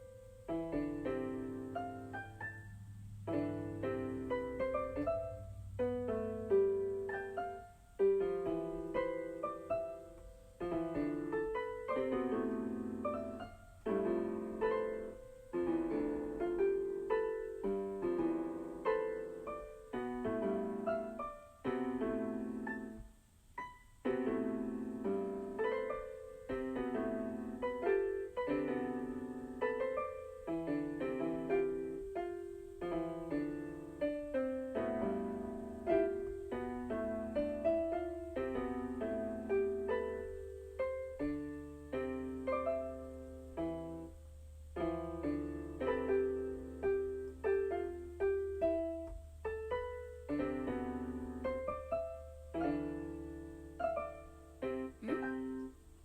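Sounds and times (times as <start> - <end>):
slow piano keyboard melody: 0.0 - 56.0.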